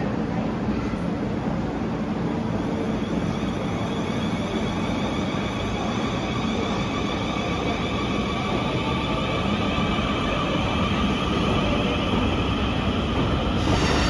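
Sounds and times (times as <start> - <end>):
electric train rumbling: 1.4 - 14.0.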